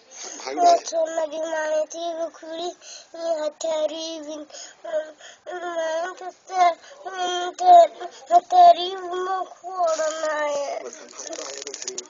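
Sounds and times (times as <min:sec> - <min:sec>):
child singing: 0:00.5 - 0:10.8.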